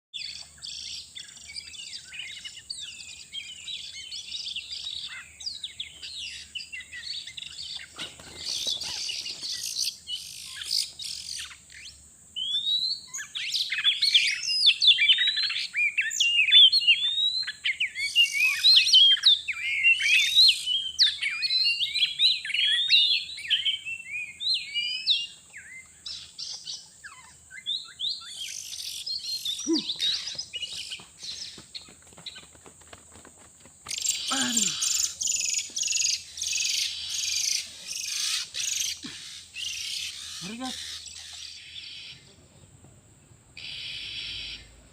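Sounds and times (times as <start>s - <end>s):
bird singing whistles and chirps: 0.2s - 31.6s, 33.9s - 39.0s.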